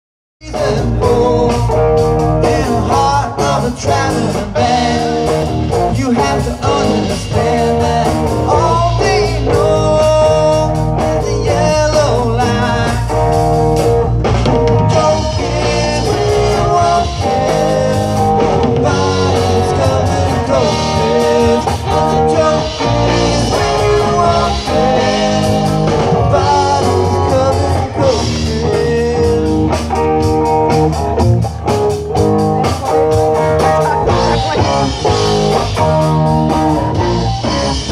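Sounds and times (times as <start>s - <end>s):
person singing: 0.4s - 13.6s, 14.6s - 30.0s, 32.5s - 37.9s
bass: 0.4s - 37.9s
drum kit: 0.4s - 37.9s
electric guitars: 0.4s - 37.9s.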